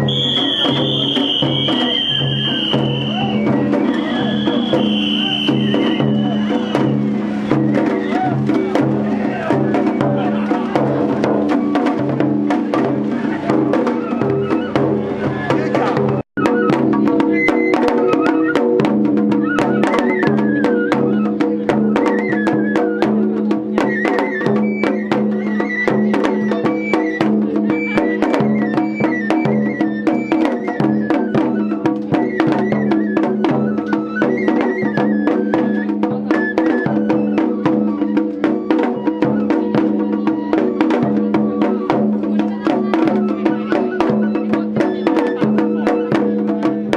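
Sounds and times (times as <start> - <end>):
high flute melody: 0.0 - 46.9
rapid drum strikes: 0.0 - 46.9
wood-block strikes: 0.0 - 46.9.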